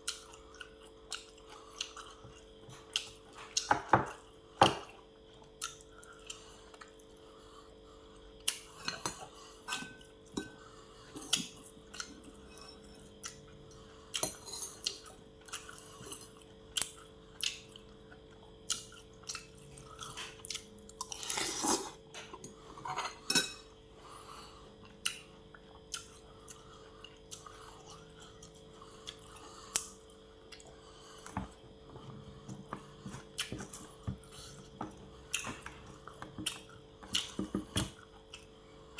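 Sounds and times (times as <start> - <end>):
chewing: 0.0 - 4.3, 8.1 - 23.3, 24.3 - 38.6
faint steady hum: 0.0 - 38.9.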